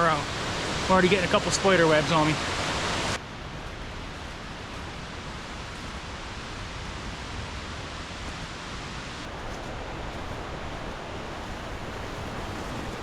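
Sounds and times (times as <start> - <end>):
waterfalls rushing: 0.0 - 13.0.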